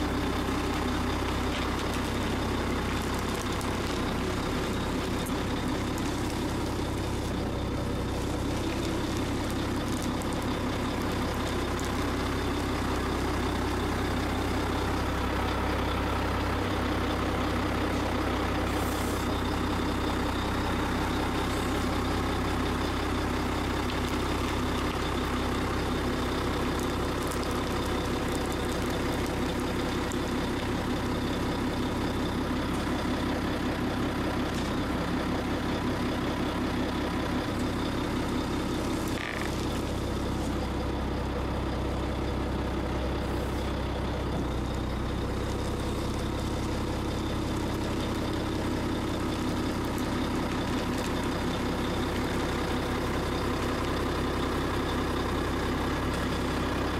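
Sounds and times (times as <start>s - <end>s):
heavy vehicle engine droning: 0.0s - 56.9s.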